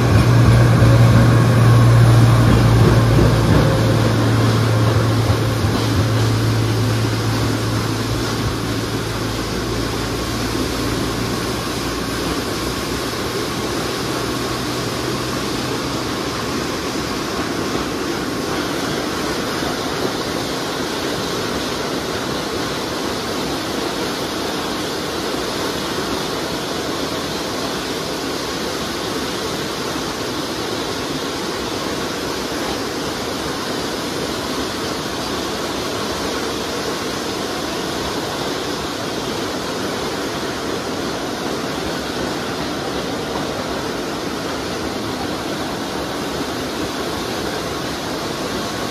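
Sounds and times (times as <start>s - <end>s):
locomotive engine hum: 0.0s - 48.9s
rail wagons rolling rumble: 0.0s - 48.9s.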